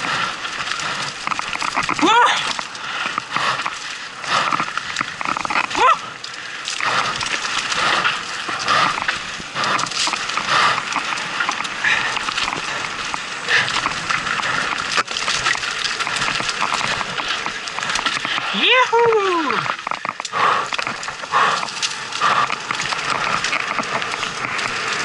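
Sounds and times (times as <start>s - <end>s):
bike rattling over bumps: 0.0s - 25.0s
tyres crunching over loose stones: 0.0s - 25.0s.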